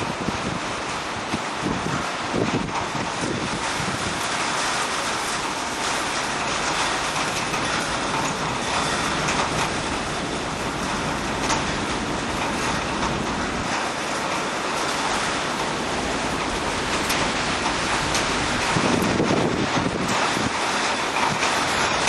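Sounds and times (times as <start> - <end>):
strong wind rushing: 0.0 - 4.4, 5.2 - 22.0
wind noise on microphone: 0.0 - 22.0.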